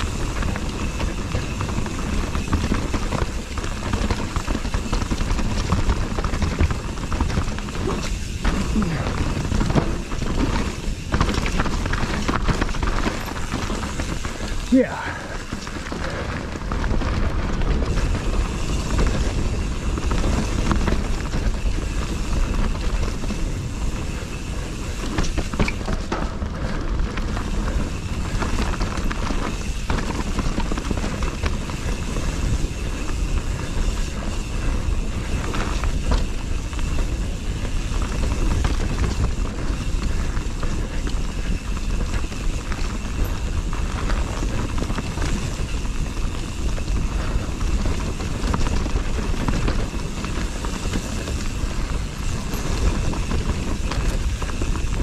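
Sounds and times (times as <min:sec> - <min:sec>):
bike tyres rumbling on trail: 0:00.0 - 0:55.0.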